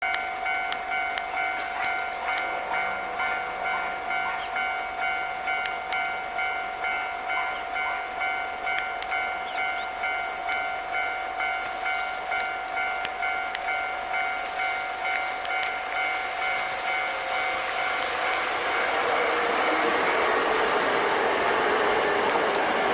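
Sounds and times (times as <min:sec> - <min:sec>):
level-crossing bell ringing: 0:00.0 - 0:20.2.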